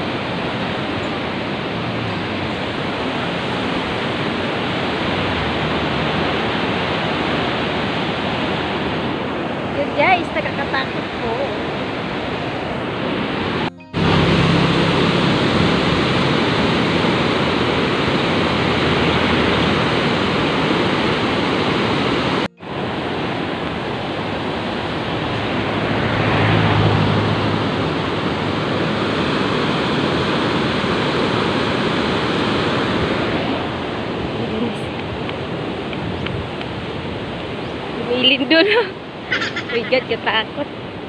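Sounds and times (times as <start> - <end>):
white-water rapids rushing: 0.0 - 41.0.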